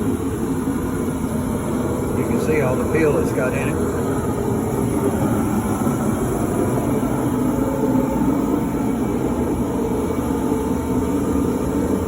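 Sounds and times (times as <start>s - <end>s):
space heater rushing hum: 0.0s - 12.0s.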